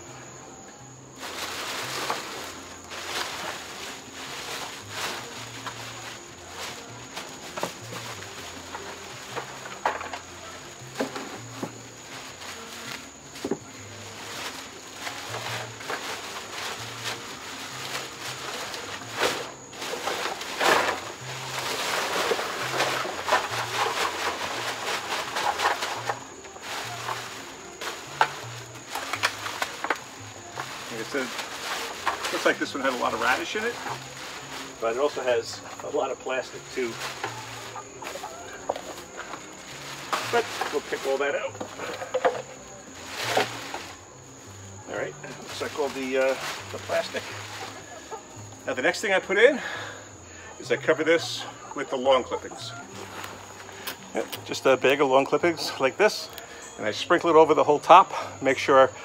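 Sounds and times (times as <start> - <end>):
cricket trill: 0.0 - 59.0
plastic bags rustling: 1.1 - 59.0.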